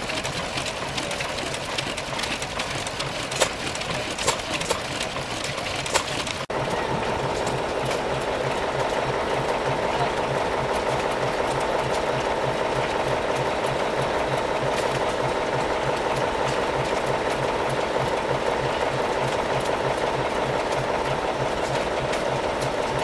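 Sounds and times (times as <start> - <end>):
stationary engine running: 0.0 - 23.0.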